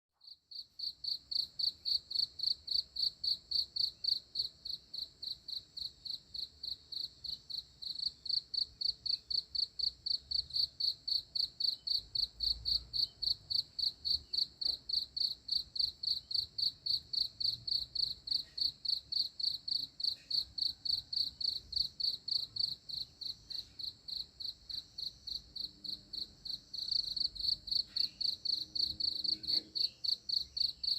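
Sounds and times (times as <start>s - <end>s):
cricket chirping: 0.2s - 30.9s.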